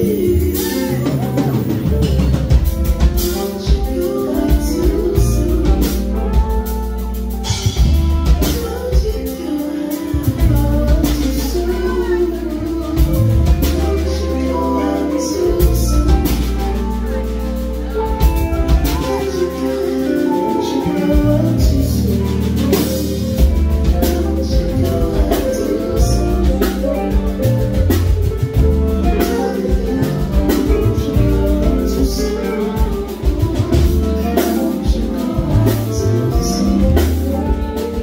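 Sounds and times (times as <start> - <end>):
bass guitar: 0.0 - 38.0
drum kit: 0.0 - 38.0
person singing: 0.0 - 38.0.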